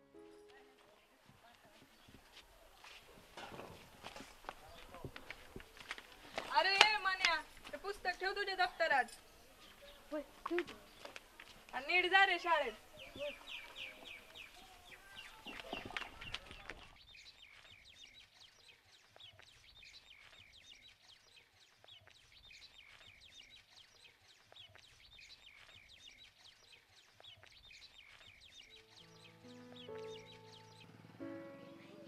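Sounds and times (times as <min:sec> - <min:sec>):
small birds chirping: 0:00.2 - 0:32.0.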